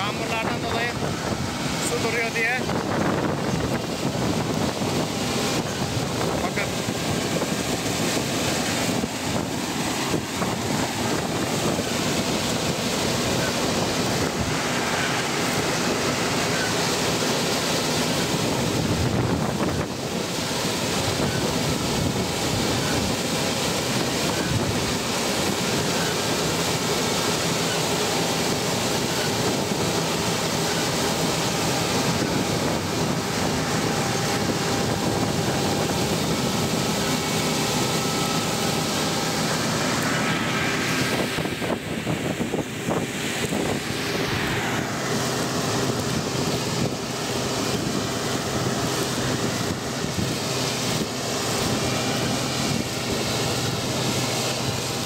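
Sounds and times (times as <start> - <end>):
combine harvester running: 0.0 - 55.0
wind buffeting microphone: 0.0 - 55.0.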